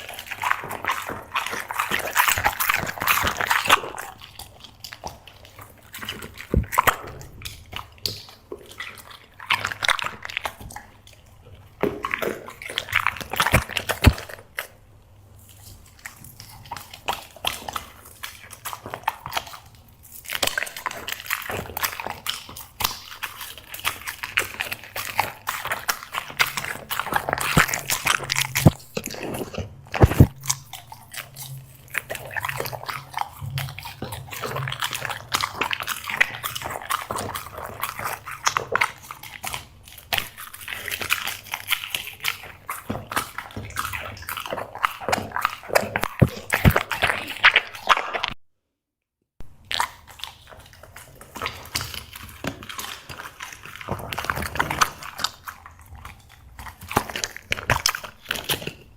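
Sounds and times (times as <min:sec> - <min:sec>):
dog crunching snacks: 0:00.0 - 0:48.4, 0:49.5 - 0:58.9.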